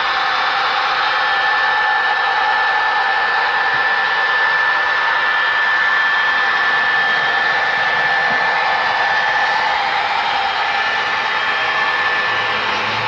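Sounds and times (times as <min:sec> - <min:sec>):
high whine: 0:00.0 - 0:13.0
model train wheels whirring on rails: 0:00.0 - 0:13.0.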